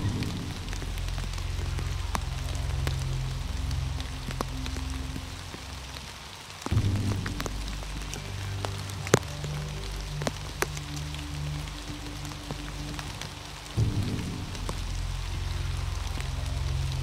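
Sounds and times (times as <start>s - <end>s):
background music of low held notes: 0.0s - 17.0s
falling rain: 0.0s - 17.0s.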